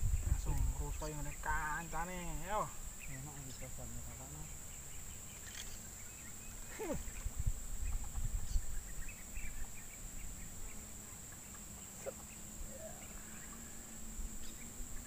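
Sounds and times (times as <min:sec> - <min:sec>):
bird chirps: 0:00.0 - 0:15.0
high-pitched insect drone: 0:00.0 - 0:15.0.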